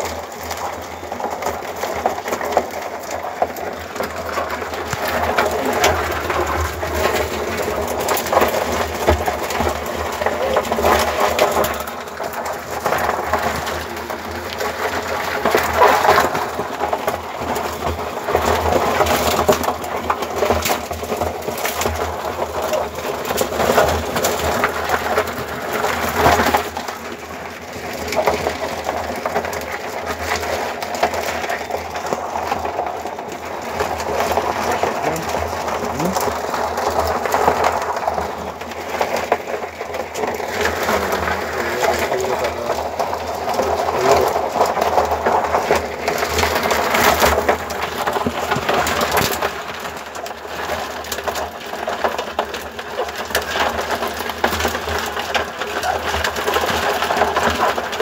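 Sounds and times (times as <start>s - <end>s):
crabs scraping and clicking: 0.0s - 58.0s.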